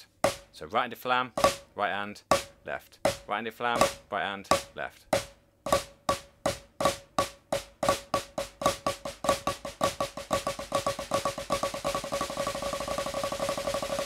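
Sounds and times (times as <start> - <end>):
snare drum flam triplets: 0.2 - 0.6, 1.4 - 1.7, 2.3 - 14.0.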